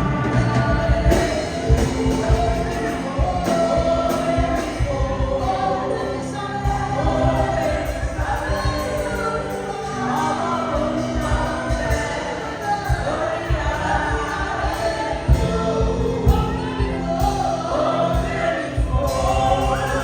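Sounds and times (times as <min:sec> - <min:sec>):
band with steady drum beat: 0:00.0 - 0:20.0
choir singing: 0:00.0 - 0:20.0.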